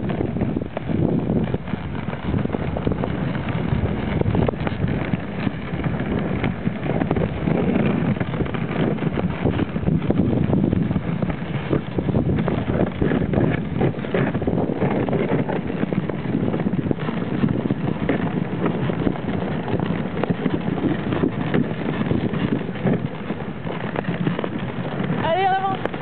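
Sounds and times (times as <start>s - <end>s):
sled rattling: 0.0s - 26.0s
sled runners scraping on snow: 0.0s - 26.0s
wind buffeting microphone: 0.0s - 26.0s.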